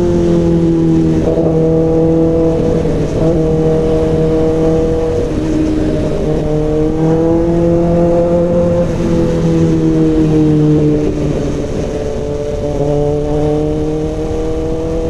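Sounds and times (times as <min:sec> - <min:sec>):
motorcycle engine at steady revs: 0:00.0 - 0:15.0.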